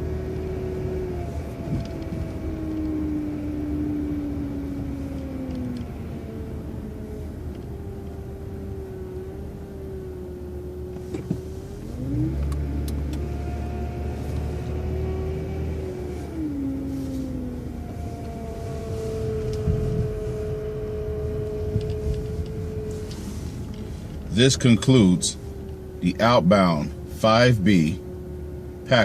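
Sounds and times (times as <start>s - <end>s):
bus engine running with whine: 0.0s - 29.0s.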